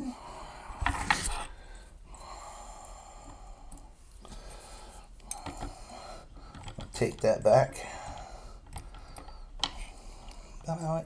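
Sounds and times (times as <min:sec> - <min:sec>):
person breathing close to microphone: 0:00.0 - 0:06.9, 0:07.8 - 0:10.6
faint room hiss: 0:00.0 - 0:11.0.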